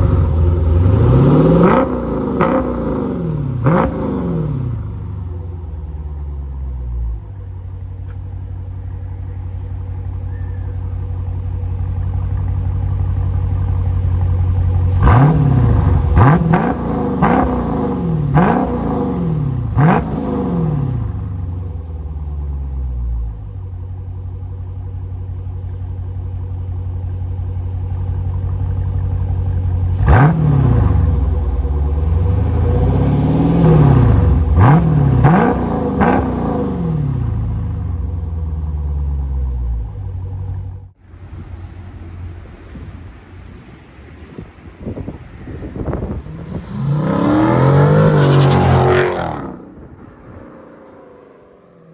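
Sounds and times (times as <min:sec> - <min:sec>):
car engine idling and revving: 0:00.0 - 0:51.9.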